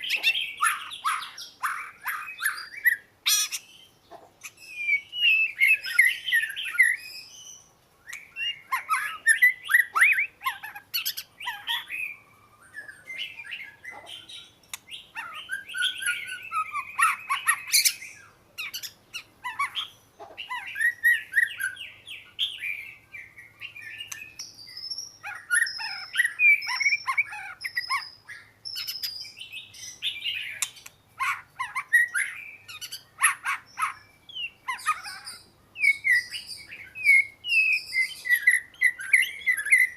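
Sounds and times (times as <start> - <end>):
bird singing whistled phrases: 0.0 - 3.8, 4.5 - 19.9, 20.5 - 39.9.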